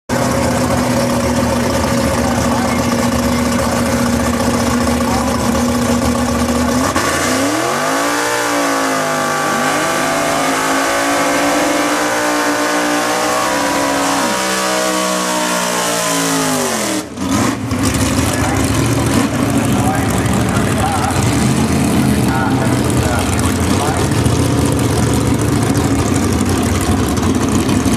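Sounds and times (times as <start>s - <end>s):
drag car engines revving: 0.1s - 27.9s
engines accelerating through gears: 0.1s - 27.9s.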